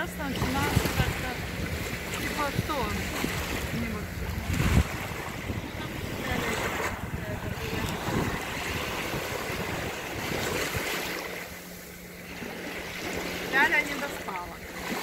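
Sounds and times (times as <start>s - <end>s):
small waves breaking on sand: 0.0s - 15.0s
wind buffeting microphone: 0.0s - 15.0s.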